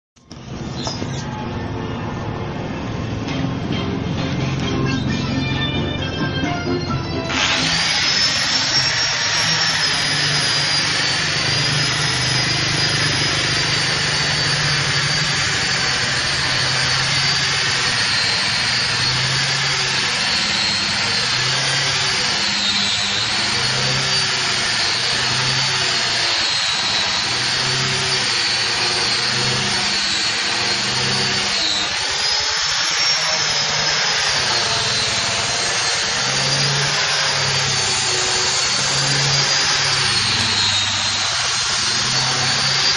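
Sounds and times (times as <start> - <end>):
angle grinder sanding wood: 7.2 - 42.9.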